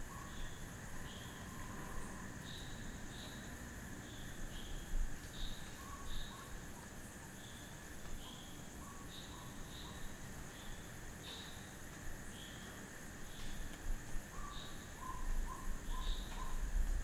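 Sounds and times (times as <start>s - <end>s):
frogs chirping: 0.0s - 13.5s, 14.2s - 16.7s
insects trilling: 0.0s - 17.0s.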